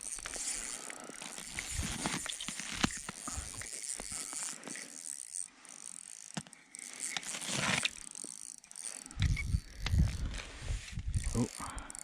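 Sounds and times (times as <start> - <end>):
rustling of fishing gear: 0.0 - 12.0.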